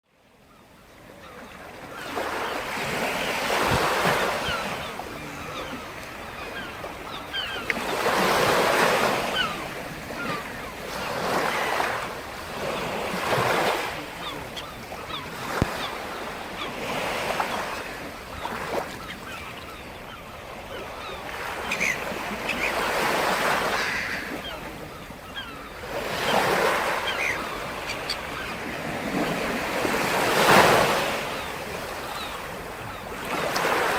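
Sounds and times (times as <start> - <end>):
waves breaking on shore: 0.5 - 33.9.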